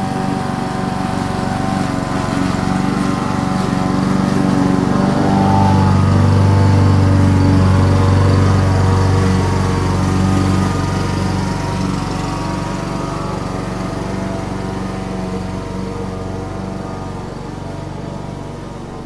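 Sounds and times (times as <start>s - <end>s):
lawn mower engine cutting grass: 0.0s - 19.0s.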